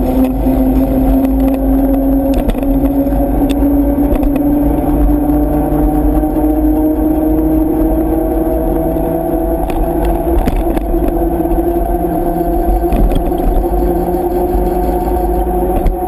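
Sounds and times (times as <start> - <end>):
motorcycle engine cruising: 0.0 - 16.0
wind rumble on microphone: 0.0 - 16.0.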